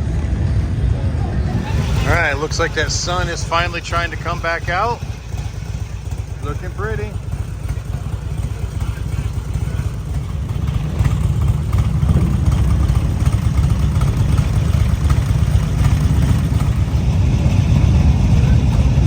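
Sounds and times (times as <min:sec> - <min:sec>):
motorcycle engine rumble: 0:00.0 - 0:19.0.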